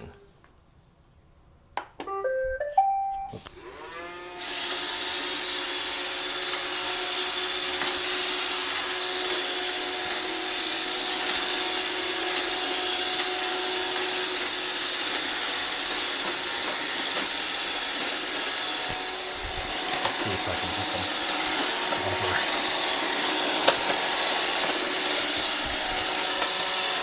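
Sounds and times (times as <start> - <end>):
robot vacuum whirring: 3.6 - 27.0.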